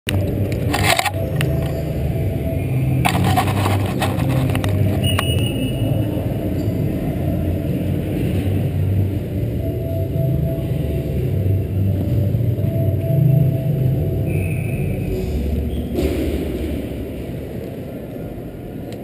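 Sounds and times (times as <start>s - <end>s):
low arena rumble: 0.1s - 19.0s.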